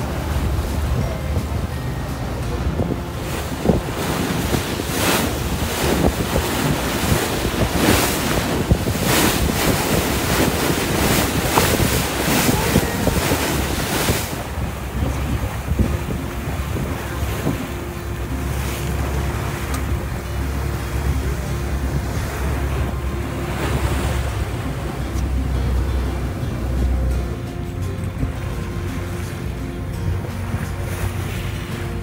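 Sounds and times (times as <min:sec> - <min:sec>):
boat engine humming: 0:00.0 - 0:32.0
water splashing along hull: 0:00.0 - 0:32.0
wind gusting on microphone: 0:00.0 - 0:32.0.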